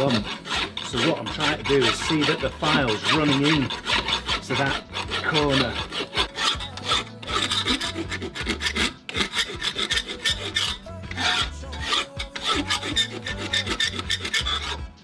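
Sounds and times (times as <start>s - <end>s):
hand file rasping on steel: 0.0s - 15.0s.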